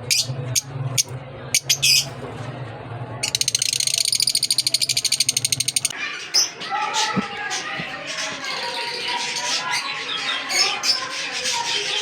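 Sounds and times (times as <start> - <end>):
cage birds chirping: 0.0 - 2.6, 3.2 - 12.0.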